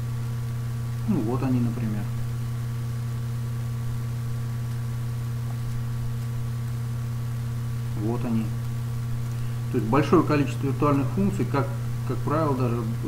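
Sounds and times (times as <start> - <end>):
even hiss: 0.0 - 13.0
low electrical hum: 0.0 - 13.0.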